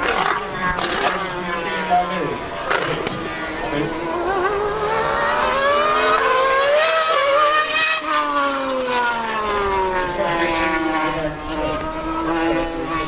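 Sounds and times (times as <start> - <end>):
racing engine accelerating: 0.0 - 13.0.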